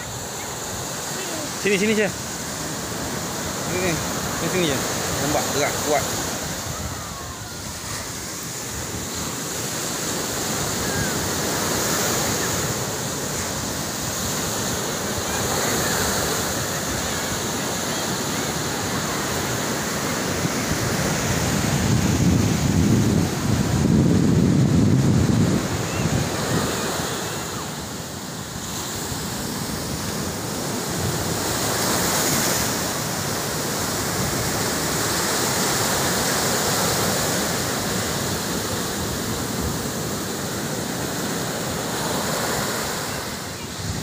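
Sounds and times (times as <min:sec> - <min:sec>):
sea waves breaking on beach: 0:00.0 - 0:44.0.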